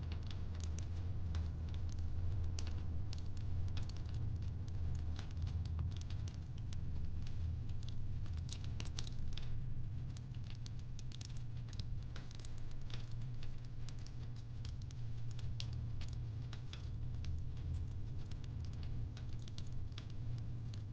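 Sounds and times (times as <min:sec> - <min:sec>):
fire crackling pops and snaps: 0:00.0 - 0:20.9
low fire rumble: 0:00.0 - 0:20.9.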